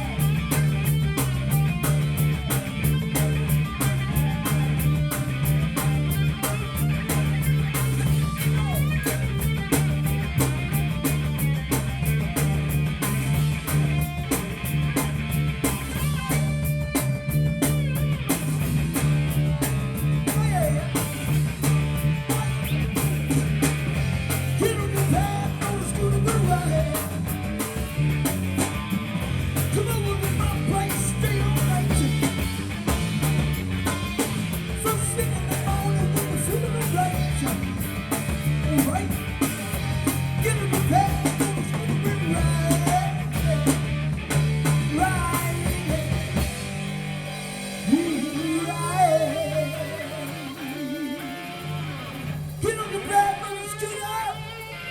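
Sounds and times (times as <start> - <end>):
stepping bass line: 0.0 - 50.5
drum kit: 0.0 - 54.9
electric guitar lines: 0.0 - 54.9.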